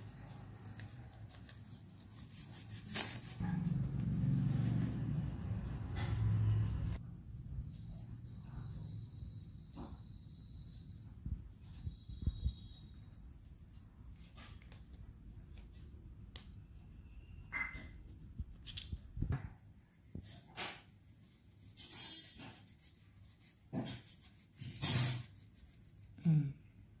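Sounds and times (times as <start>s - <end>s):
pencil shading on paper: 0.0s - 26.8s.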